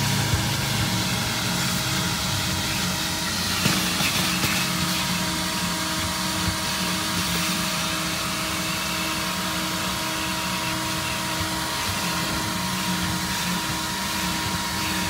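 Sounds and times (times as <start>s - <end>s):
vacuum motor whine: 0.0s - 15.0s.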